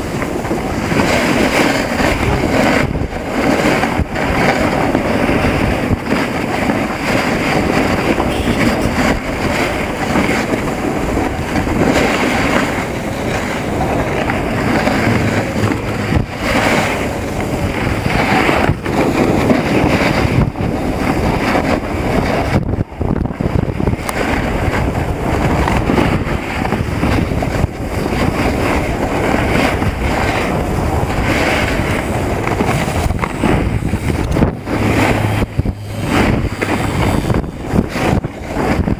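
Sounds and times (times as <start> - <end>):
snowboard scraping on snow: 0.0 - 38.9
wind rushing over microphone: 0.0 - 38.9.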